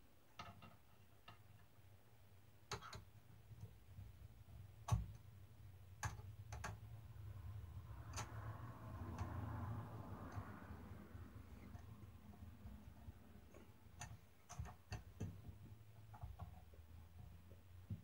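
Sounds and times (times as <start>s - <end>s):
low steady hum: 1.8s - 18.0s.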